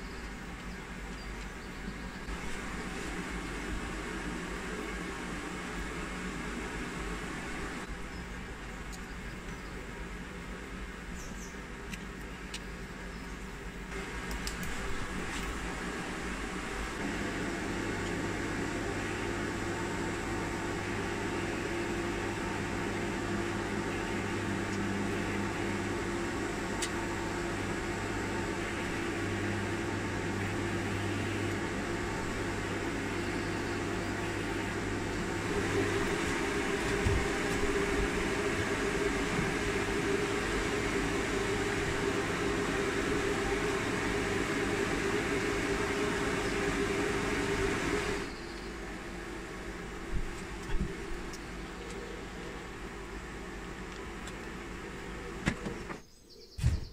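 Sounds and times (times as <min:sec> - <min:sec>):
extractor fan hum: 0:00.0 - 0:56.9.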